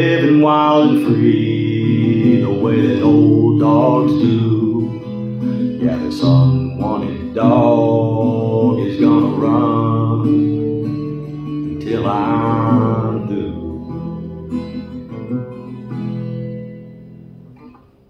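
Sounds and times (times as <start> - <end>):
acoustic guitar chords ringing: 0.0 - 18.0.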